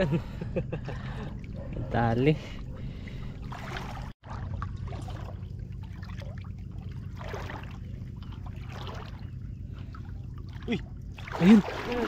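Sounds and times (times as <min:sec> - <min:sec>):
steady low rumble: 0:00.0 - 0:12.0
seawater sloshing around legs: 0:01.0 - 0:12.0.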